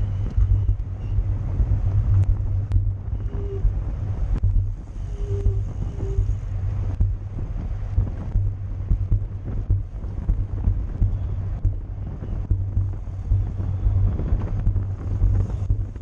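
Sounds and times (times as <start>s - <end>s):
bicycle road and tyre noise: 0.0s - 16.0s
wind buffeting microphone: 0.0s - 16.0s.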